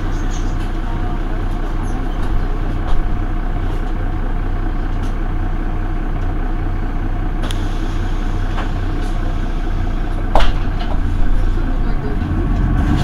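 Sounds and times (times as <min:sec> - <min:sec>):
bus engine idling: 0:00.0 - 0:13.0
faint engine whine: 0:00.0 - 0:13.0.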